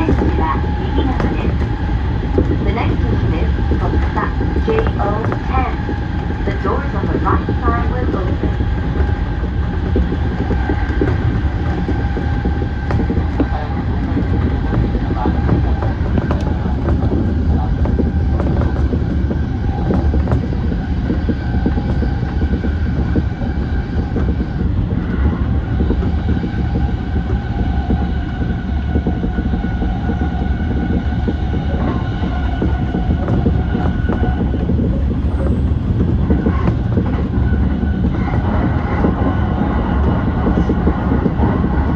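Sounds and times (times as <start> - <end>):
electric train whine: 0.0 - 41.9
train wheels rumbling on rail: 0.0 - 41.9.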